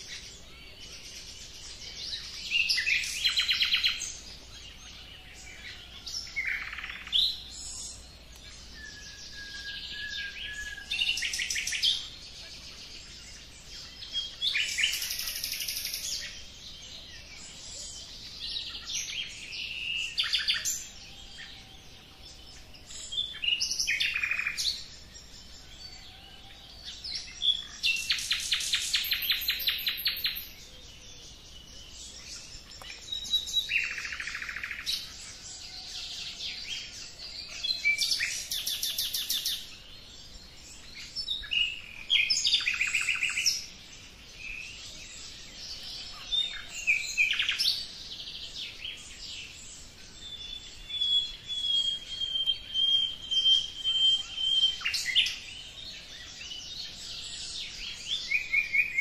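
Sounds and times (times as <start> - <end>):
songbirds trilling: 0.0 - 59.0.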